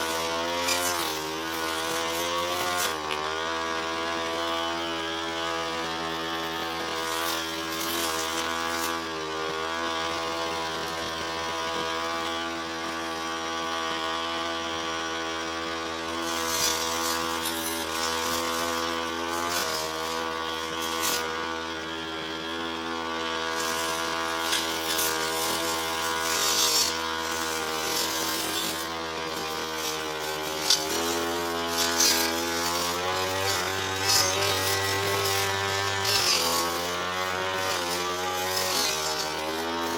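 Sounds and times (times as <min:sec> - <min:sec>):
blade swishing through grass: 0:00.0 - 0:12.5, 0:16.1 - 0:21.5, 0:23.1 - 0:39.9
brush cutter engine running: 0:00.0 - 0:39.9.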